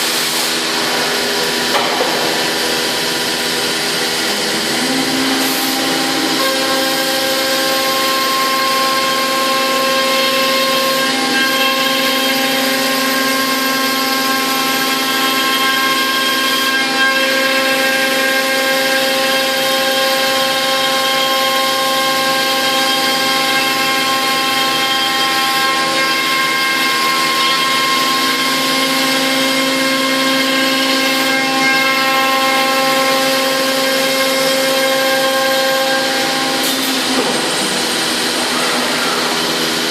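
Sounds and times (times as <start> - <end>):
woodworking machine whining: 0.0 - 39.9.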